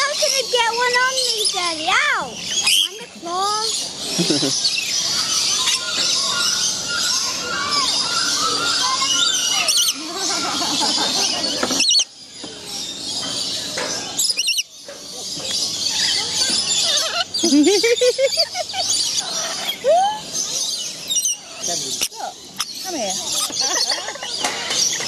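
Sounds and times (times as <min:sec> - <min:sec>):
parrots screeching and chirping: 0:00.0 - 0:25.0.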